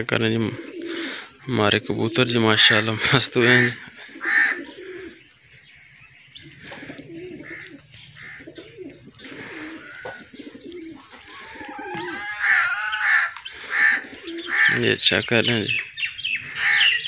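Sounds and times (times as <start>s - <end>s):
birds chirping: 0.0s - 17.0s
pigeons cooing: 0.0s - 17.0s
loud bird call: 2.5s - 17.0s.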